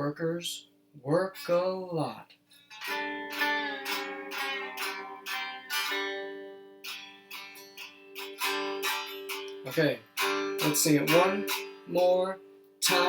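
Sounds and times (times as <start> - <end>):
acoustic guitar strumming: 1.4 - 13.0.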